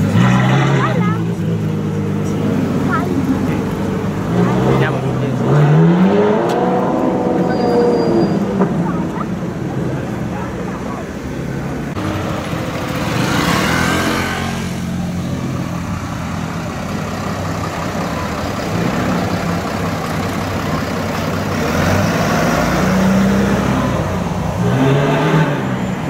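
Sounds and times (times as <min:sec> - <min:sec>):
sports car engine at low speed: 0:00.0 - 0:26.0.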